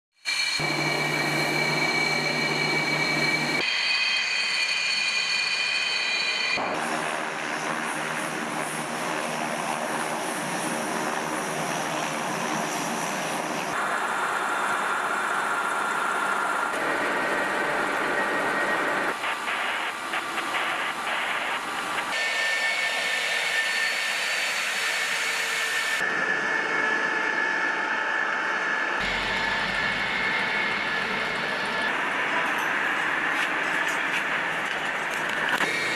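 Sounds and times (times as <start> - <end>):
jet engines whining: 0.3 - 35.9.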